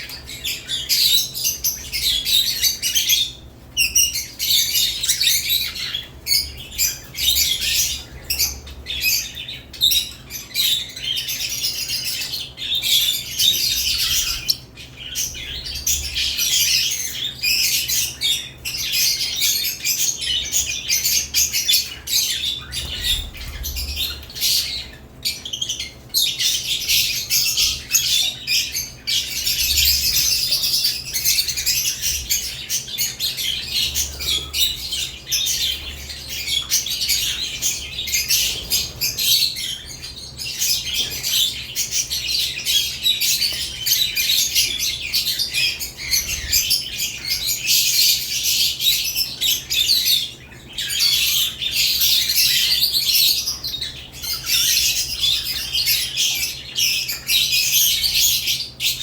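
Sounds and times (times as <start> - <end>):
lovebirds chattering and squawking: 0.0 - 59.0.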